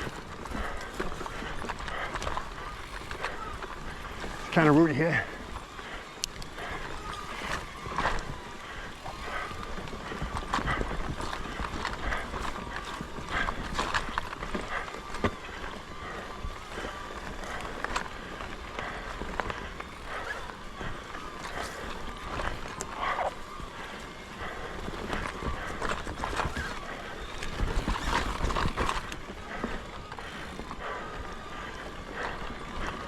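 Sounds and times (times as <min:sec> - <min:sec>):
bike knocking over roots: 0:00.0 - 0:33.0
tyre and drivetrain noise: 0:00.0 - 0:33.0.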